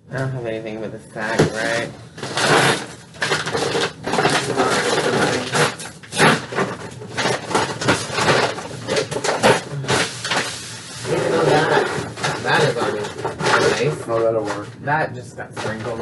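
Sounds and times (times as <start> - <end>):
rustling and crinkling: 1.2 - 14.8, 15.5 - 16.0.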